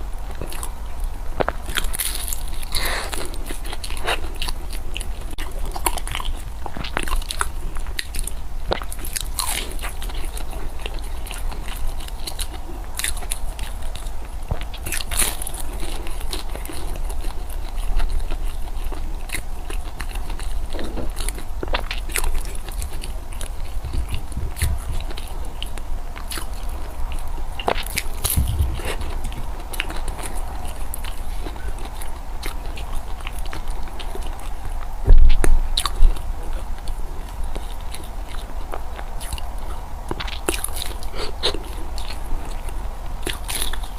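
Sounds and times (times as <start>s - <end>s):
chewing and crunching food: 0.0s - 43.9s
steady low hum: 0.0s - 43.9s.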